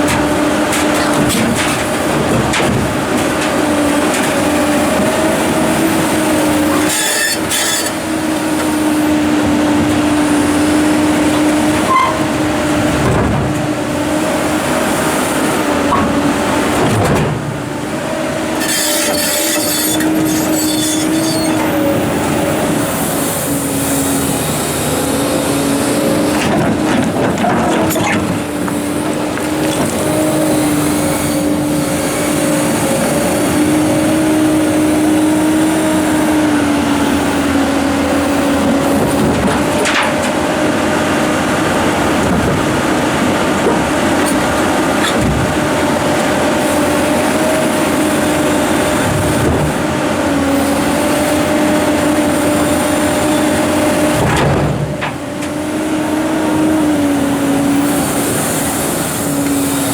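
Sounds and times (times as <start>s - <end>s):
excavator engine and hydraulics whine: 0.0s - 59.9s.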